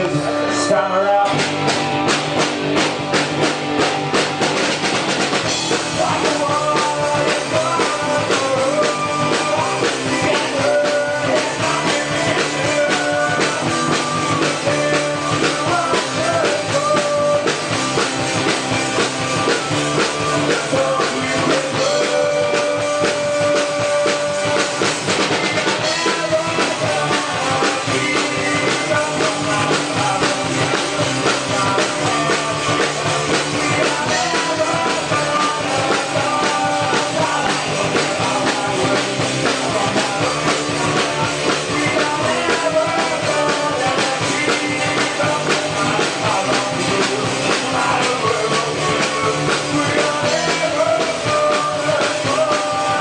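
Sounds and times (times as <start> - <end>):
drum kit: 0.0 - 53.0
electric guitars: 0.0 - 53.0
punk rock band playing live: 0.0 - 53.0.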